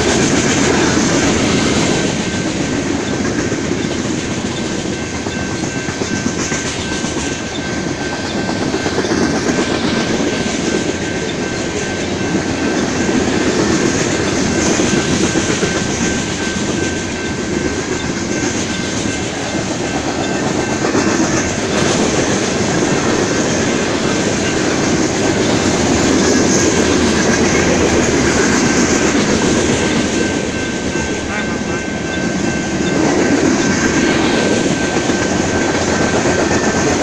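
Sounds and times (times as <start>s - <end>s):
train wheels clacking on rail: 0.0s - 37.0s.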